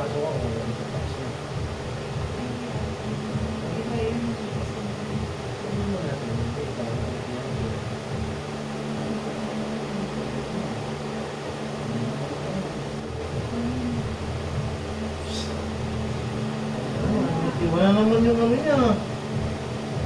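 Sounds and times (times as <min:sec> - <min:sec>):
constant hiss: 0:00.0 - 0:20.0
low mechanical hum: 0:00.0 - 0:20.0.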